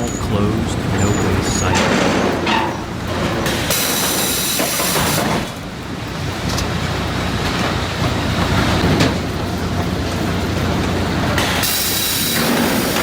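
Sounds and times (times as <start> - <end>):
machinery rumbling and clattering: 0.0 - 13.0.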